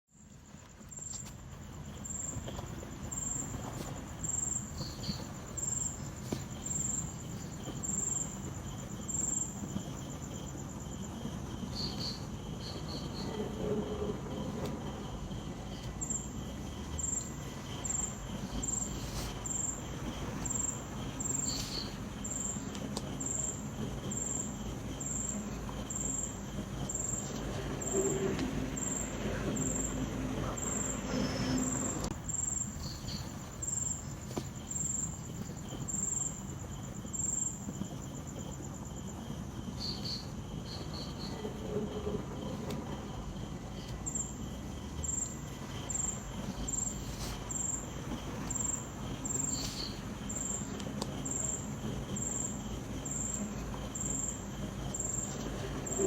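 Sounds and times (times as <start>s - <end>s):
crickets chirping: 0.1s - 56.0s
insects chirping: 0.1s - 56.0s
low rumble of wind: 0.1s - 56.0s.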